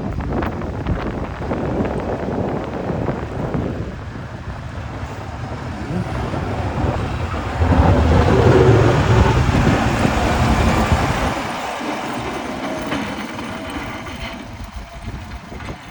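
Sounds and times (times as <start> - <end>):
truck engine rumbling: 0.0 - 15.9.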